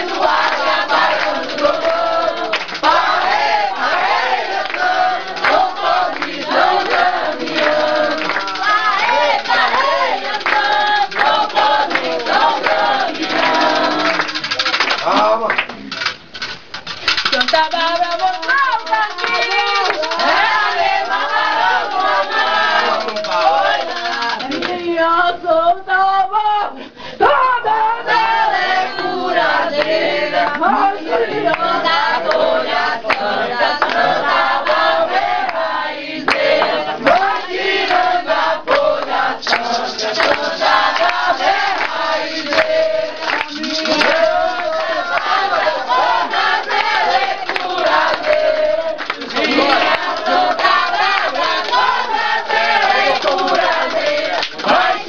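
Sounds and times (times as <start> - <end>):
group of people chanting: 0.0 - 14.5, 19.2 - 24.5, 27.3 - 55.0
hand clapping: 0.0 - 24.9, 28.1 - 55.0.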